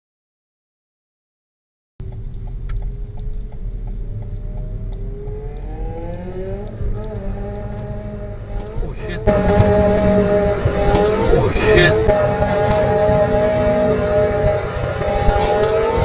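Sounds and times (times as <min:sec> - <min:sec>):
low road rumble: 0:02.0 - 0:16.0
vehicle engine accelerating: 0:02.0 - 0:16.0.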